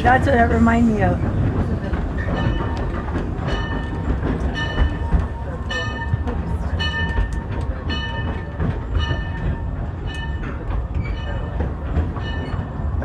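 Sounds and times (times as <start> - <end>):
steam train rumbling: 0.0 - 13.0.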